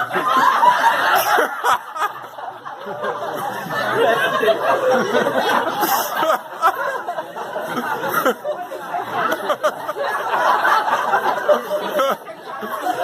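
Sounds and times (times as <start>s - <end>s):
people laughing: 0.0s - 13.0s
people talking over one another: 0.0s - 13.0s.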